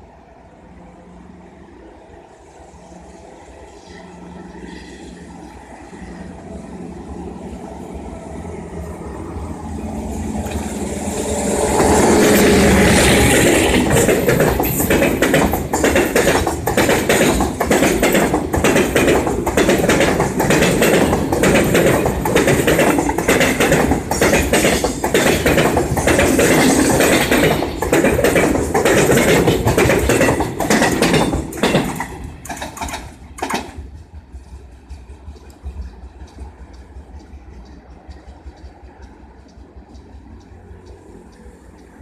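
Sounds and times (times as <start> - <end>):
freight train rolling past: 0.0 - 42.0
wheels clacking on rails: 7.4 - 42.0.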